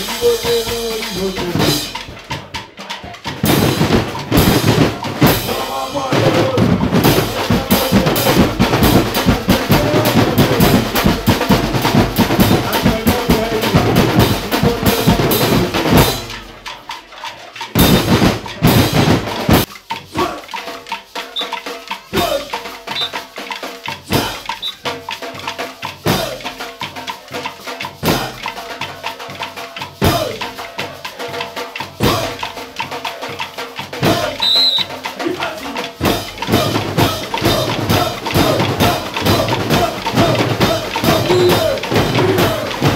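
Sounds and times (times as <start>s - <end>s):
drum band playing: 0.0s - 42.9s.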